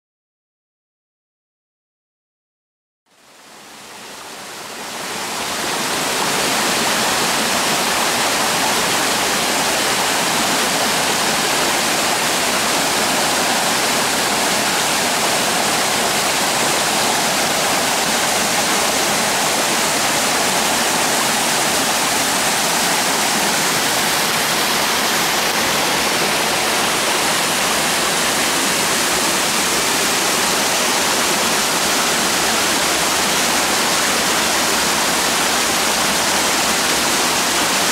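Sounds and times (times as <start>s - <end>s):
waterfall rushing over rocks: 3.2s - 37.9s.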